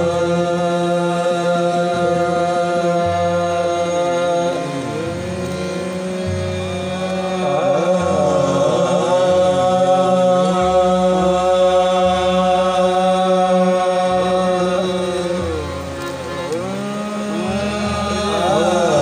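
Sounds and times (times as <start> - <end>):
harmonium drone: 0.0 - 19.0
voices singing: 0.0 - 19.0.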